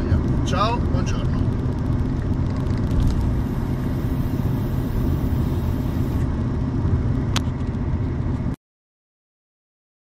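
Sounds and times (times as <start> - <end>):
car engine and road rumble: 0.0 - 8.6.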